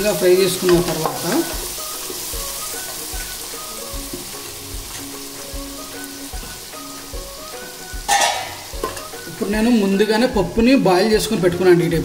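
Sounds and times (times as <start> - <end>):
background music with soft beat: 0.0 - 12.0
vegetables sizzling in oil: 0.0 - 12.0.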